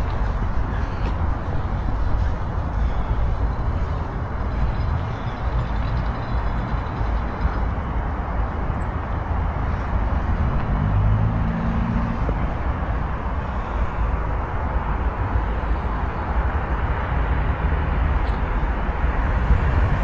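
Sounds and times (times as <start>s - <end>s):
vehicle rumble: 0.0s - 20.0s
wind noise: 0.0s - 20.0s.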